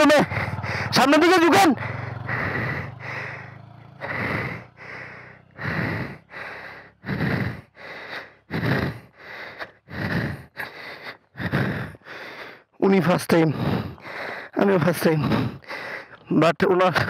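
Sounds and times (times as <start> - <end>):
motorcycle engine idling: 0.0 - 17.0
person panting hard: 0.1 - 1.0, 1.7 - 16.3.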